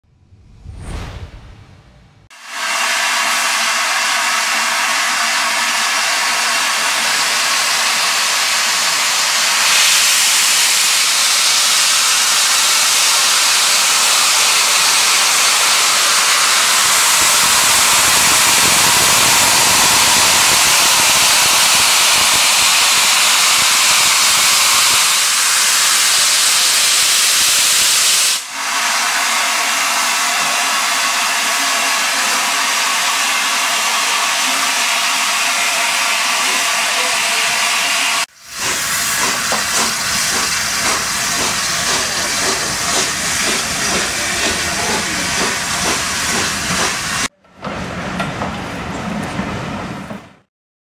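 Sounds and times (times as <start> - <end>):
steam locomotive hissing steam: 2.4 - 47.3.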